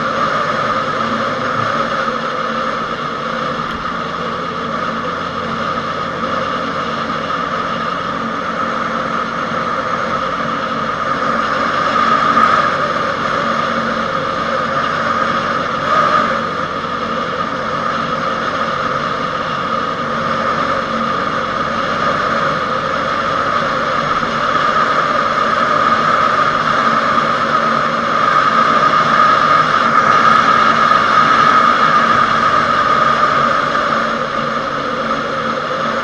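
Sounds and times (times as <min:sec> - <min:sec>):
motorcycle engine running: 0:00.0 - 0:36.0
road noise: 0:00.0 - 0:36.0.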